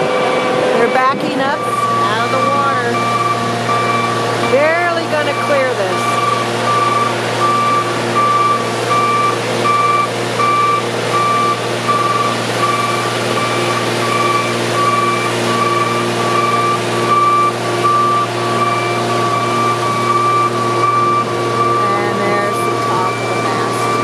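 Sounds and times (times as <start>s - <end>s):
engine humming: 0.0s - 24.0s
reversing alarm beeping: 0.7s - 24.0s.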